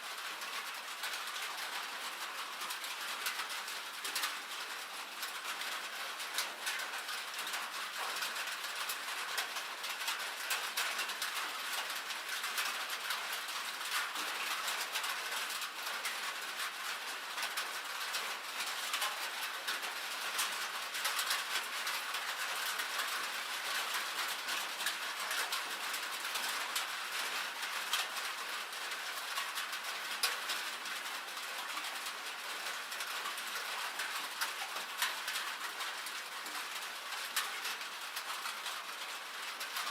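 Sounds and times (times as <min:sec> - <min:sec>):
rain and hail on metal roof: 0:00.0 - 0:39.9.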